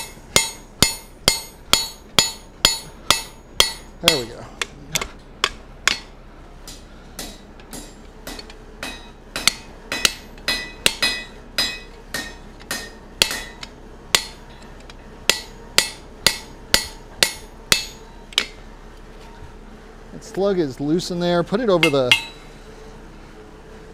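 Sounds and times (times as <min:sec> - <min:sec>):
hammer striking hot steel on anvil: 0:00.0 - 0:18.6, 0:21.8 - 0:22.5.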